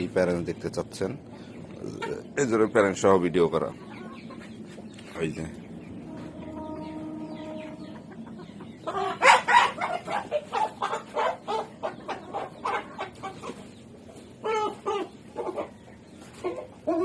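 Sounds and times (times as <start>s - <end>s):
chicken clucking: 0.0s - 17.0s.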